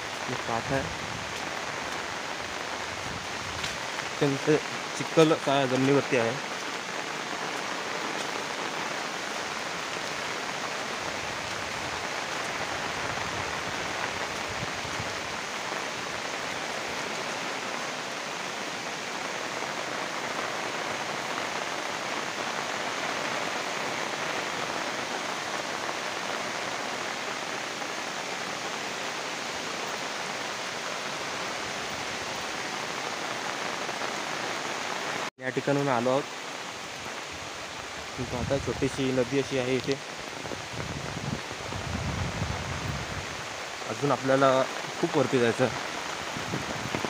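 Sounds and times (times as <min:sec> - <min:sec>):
rain on foliage: 0:00.0 - 0:47.0.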